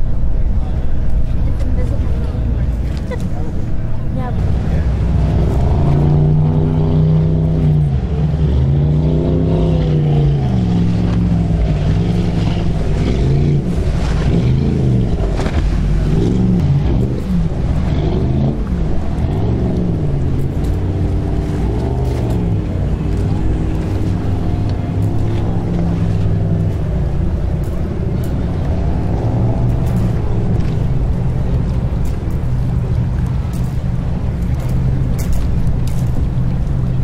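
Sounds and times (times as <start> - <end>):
speedboat engine running: 0.0 - 37.0.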